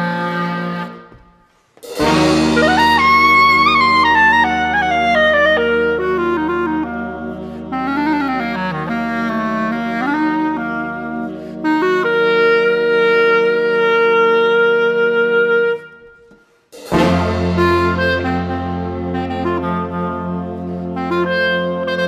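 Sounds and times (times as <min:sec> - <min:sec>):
jazz big band: 0:00.0 - 0:01.2, 0:01.8 - 0:22.0
clarinet sliding notes: 0:00.0 - 0:01.4, 0:02.0 - 0:22.0.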